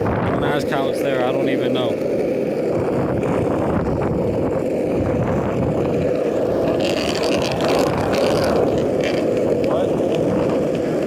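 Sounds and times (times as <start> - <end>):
skateboard wheels rumbling on pavement: 0.0 - 11.0.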